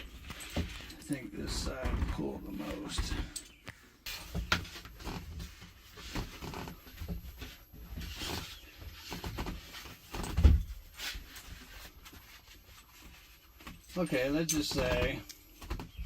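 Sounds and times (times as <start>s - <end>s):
hardware handling rustling and knocking: 0.0s - 16.0s.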